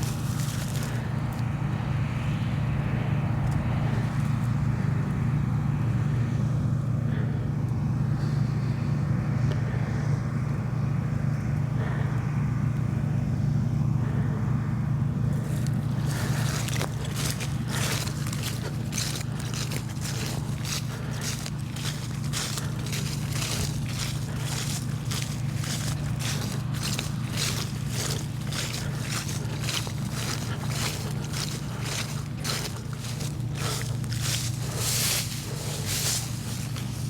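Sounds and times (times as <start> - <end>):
combine harvester humming: 0.0 - 37.0.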